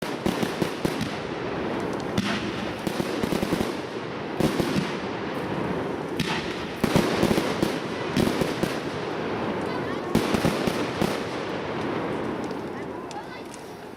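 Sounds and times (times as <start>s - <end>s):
fireworks bursting and crackling: 0.0s - 13.9s
loud fireworks bangs: 0.0s - 13.9s.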